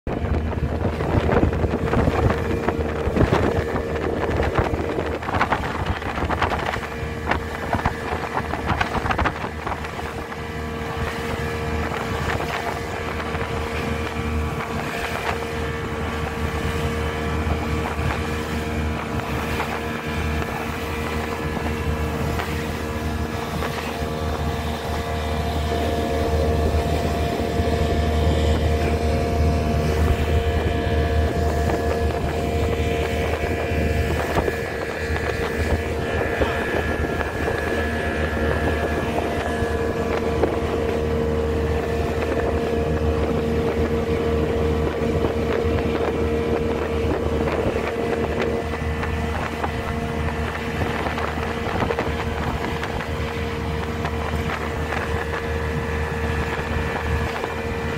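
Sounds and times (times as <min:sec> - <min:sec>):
boat engine droning: 0:00.0 - 0:57.9
water rushing past hull: 0:00.0 - 0:57.9
wind buffeting microphone: 0:00.1 - 0:57.9.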